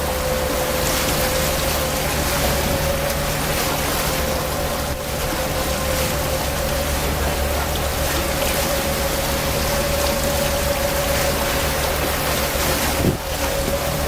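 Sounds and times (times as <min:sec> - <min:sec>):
boat engine droning: 0:00.0 - 0:14.0
rushing water and wind: 0:00.0 - 0:14.0.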